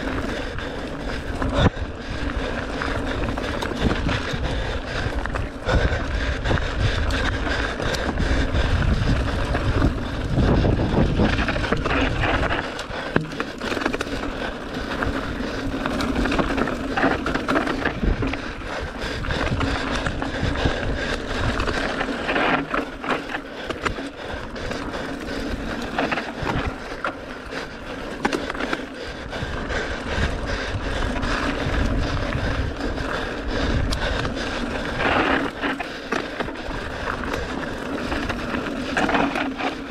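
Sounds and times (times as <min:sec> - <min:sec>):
bike chain and frame rattling: 0:00.0 - 0:39.9.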